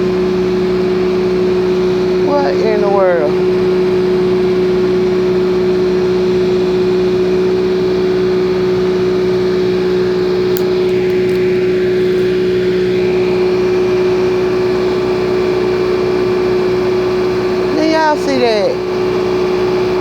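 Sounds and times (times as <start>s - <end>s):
truck machinery droning: 0.0s - 20.0s.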